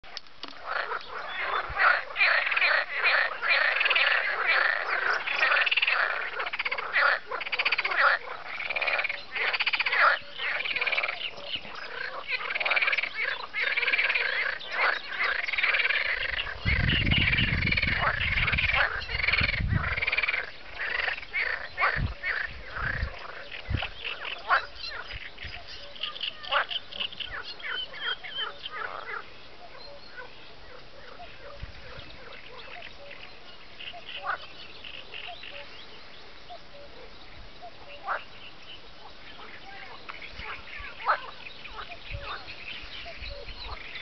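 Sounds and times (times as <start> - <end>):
frogs croaking: 0.0 - 44.0.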